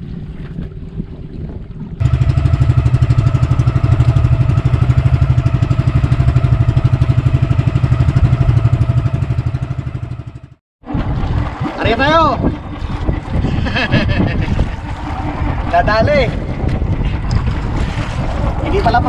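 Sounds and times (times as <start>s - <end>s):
small boat engine putter: 1.8s - 19.0s.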